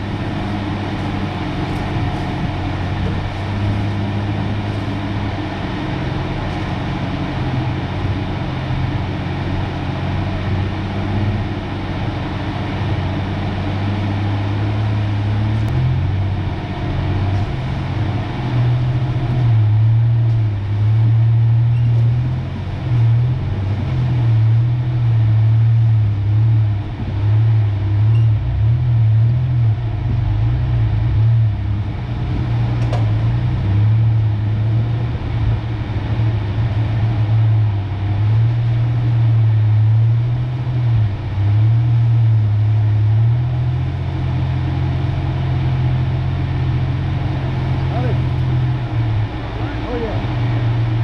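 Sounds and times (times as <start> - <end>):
pickup truck engine droning: 0.0 - 51.0.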